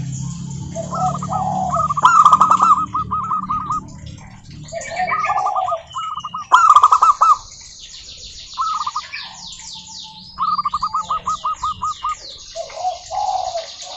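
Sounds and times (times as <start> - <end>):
doves cooing: 0.0 - 13.9
small birds chirping: 0.0 - 13.9.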